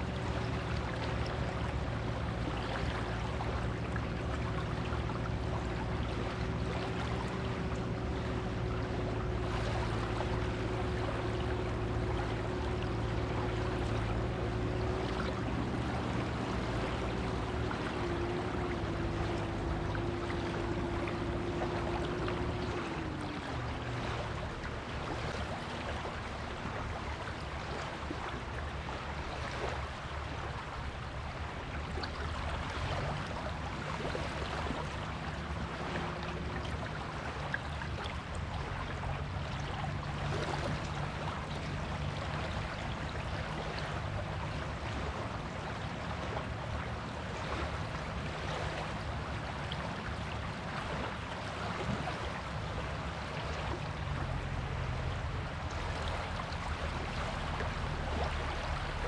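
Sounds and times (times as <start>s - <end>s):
low steady drone: 0.0s - 59.0s.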